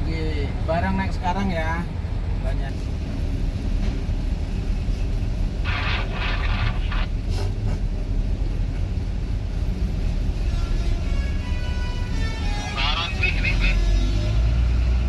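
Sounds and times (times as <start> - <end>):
vehicles idling: 1.9 - 15.0.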